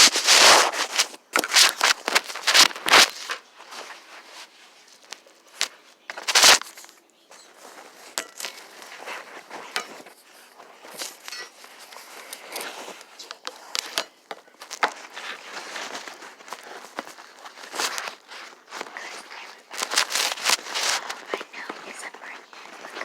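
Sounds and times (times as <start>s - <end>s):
handling rustles and bumps: 0.0s - 23.0s.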